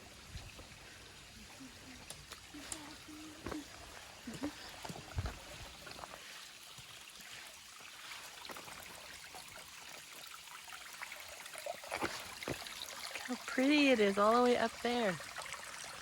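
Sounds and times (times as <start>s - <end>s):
small stream trickling: 0.0s - 16.0s.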